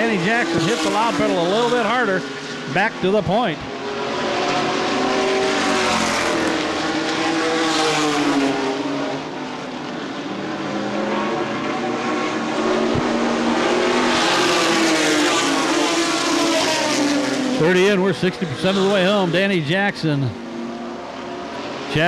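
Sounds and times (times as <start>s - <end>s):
racing truck engines: 0.0s - 22.0s.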